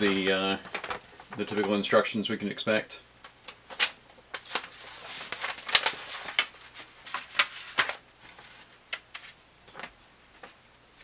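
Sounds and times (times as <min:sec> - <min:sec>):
paper sheets rustling and crinkling: 0:00.0 - 0:01.9, 0:03.2 - 0:11.0.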